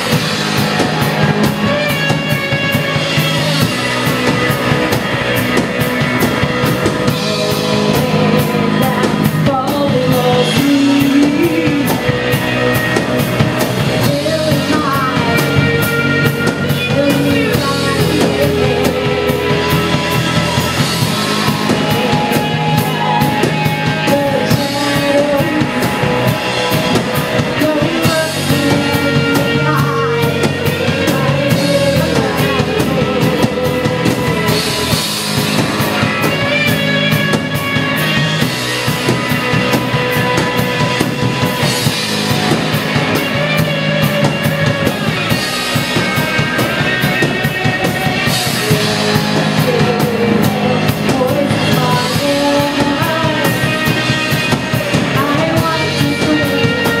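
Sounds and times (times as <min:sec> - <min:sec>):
drum kit beat: 0:00.0 - 0:57.0
electric guitar: 0:00.0 - 0:57.0
person singing: 0:00.0 - 0:57.0.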